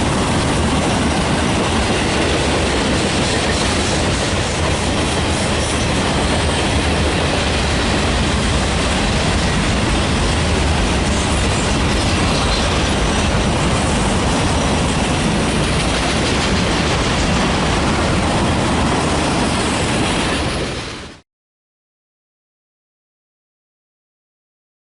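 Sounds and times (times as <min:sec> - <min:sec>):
railroad cars wheel-on-rail clatter: 0:00.0 - 0:21.2.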